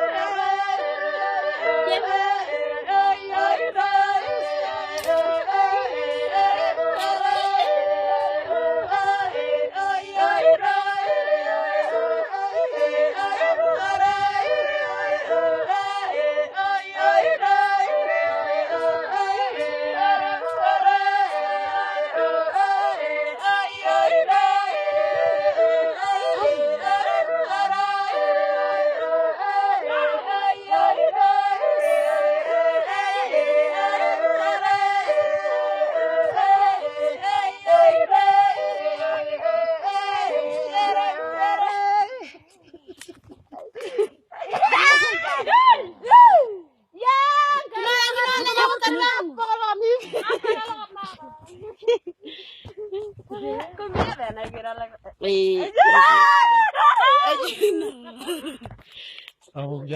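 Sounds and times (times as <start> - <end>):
unaccompanied voices singing: 0.0 - 46.3, 46.9 - 55.0.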